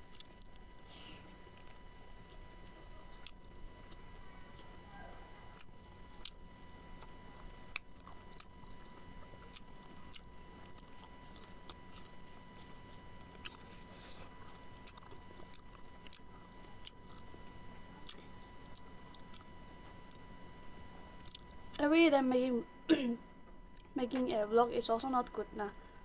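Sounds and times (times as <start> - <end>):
person chewing food: 0.0 - 21.8, 23.6 - 24.0.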